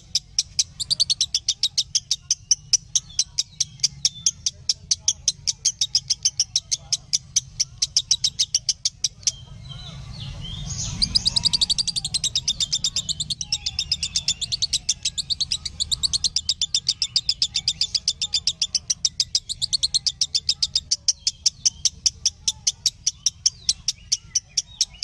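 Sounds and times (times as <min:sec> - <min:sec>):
lovebird chattering trill: 0:00.0 - 0:25.0.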